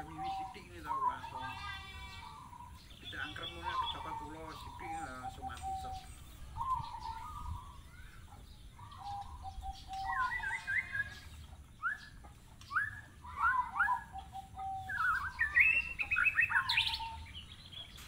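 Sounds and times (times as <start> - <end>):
birds chirping and whistling: 0.0 - 18.0.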